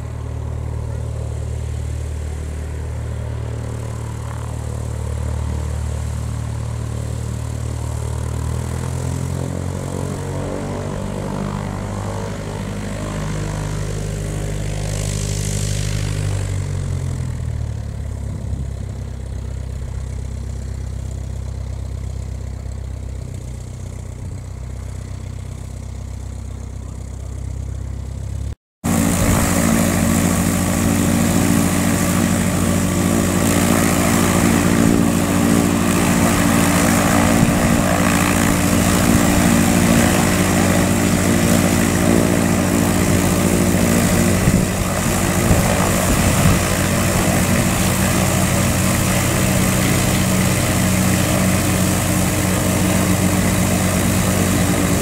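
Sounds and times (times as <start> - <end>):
aircraft engine idling close by: 0.0 - 55.0
distant propeller engine ticking over: 0.0 - 55.0.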